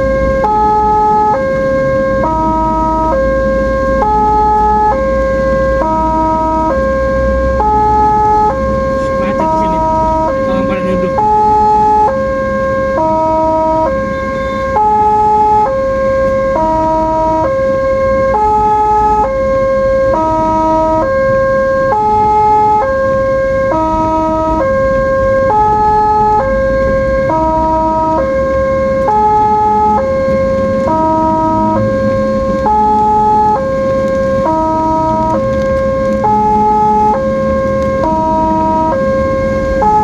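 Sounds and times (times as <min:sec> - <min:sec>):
ambulance siren: 0:00.0 - 0:40.0
vehicle road rumble: 0:00.0 - 0:40.0.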